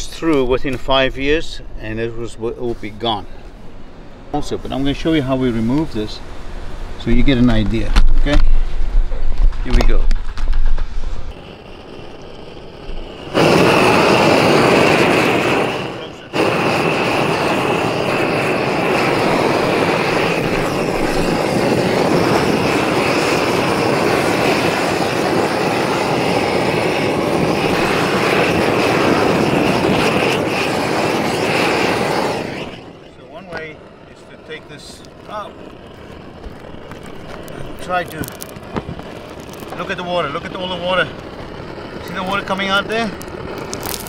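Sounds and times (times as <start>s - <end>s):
propane torch flame roaring: 0.0s - 44.0s.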